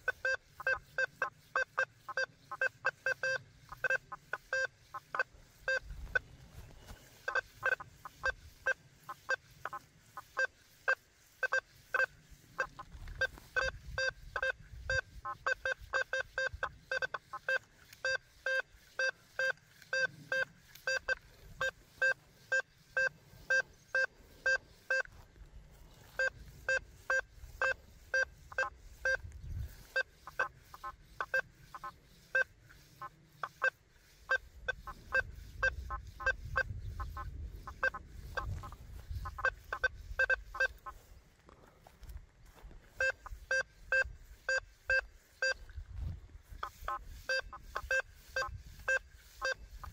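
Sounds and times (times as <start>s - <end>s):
metal detector beeps: 0.0s - 25.2s, 26.0s - 40.9s, 42.9s - 45.8s, 46.5s - 49.9s.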